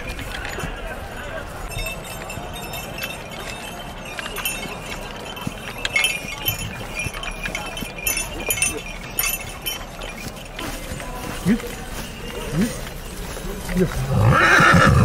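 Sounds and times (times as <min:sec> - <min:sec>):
harness chains jingling: 0:00.0 - 0:15.0
soft hoofbeats on grass: 0:00.0 - 0:15.0.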